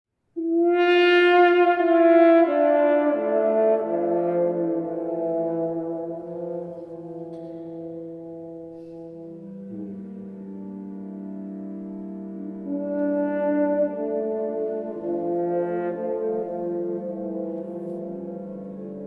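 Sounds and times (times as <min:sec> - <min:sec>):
trombone: 0:00.4 - 0:19.0
organ music: 0:02.4 - 0:19.0.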